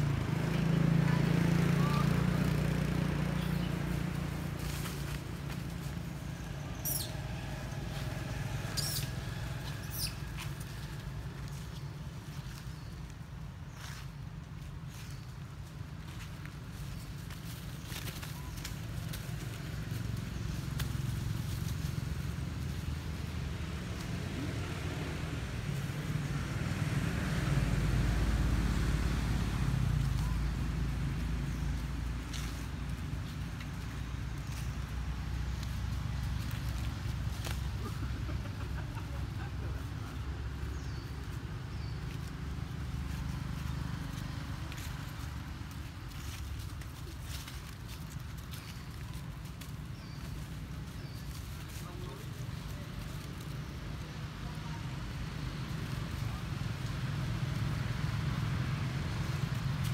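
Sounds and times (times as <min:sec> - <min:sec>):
vehicle engine rumble: 0:00.0 - 0:59.9
leaf litter rustling: 0:03.2 - 0:25.9, 0:28.2 - 0:59.9.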